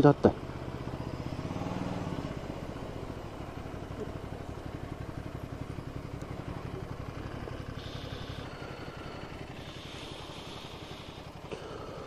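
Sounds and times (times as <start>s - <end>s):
motorcycle engine low revs: 0.0s - 12.0s.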